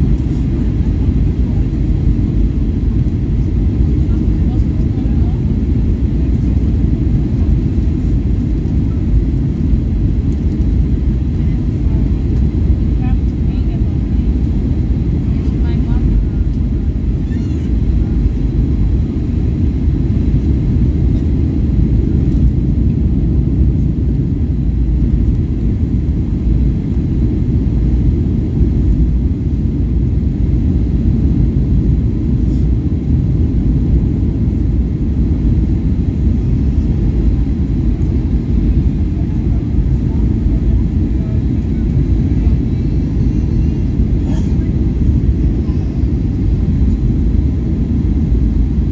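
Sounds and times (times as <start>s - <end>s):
airliner cabin low rumble: 0.0s - 48.9s.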